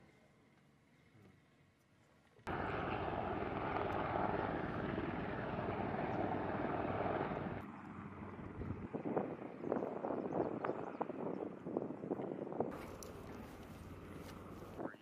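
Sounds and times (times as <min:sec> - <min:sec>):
helicopter rotor and engine: 0:02.5 - 0:15.0.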